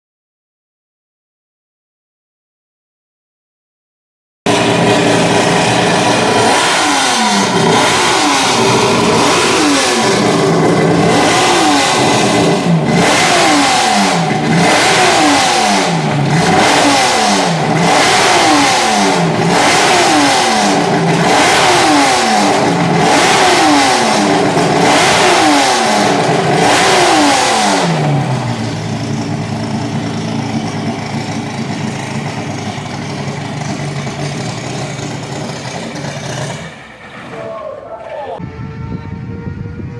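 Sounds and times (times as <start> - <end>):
race car engine revving: 4.5 - 39.9.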